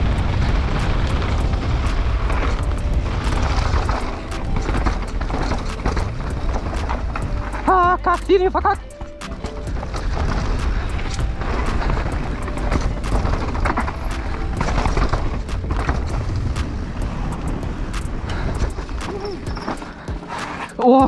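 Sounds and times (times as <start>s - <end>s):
wind buffeting microphone: 0.0s - 7.6s, 9.3s - 20.3s
bike rattling over bumps: 0.0s - 21.0s.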